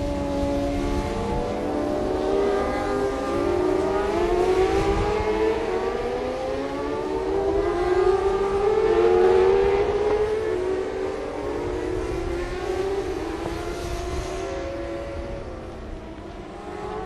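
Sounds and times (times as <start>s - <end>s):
motorcycle engines at high revs: 0.0s - 17.0s.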